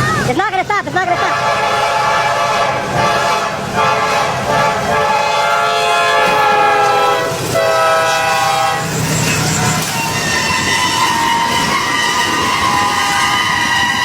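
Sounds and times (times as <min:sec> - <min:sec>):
train running: 0:00.0 - 0:14.0
train horn blasts: 0:01.2 - 0:14.0.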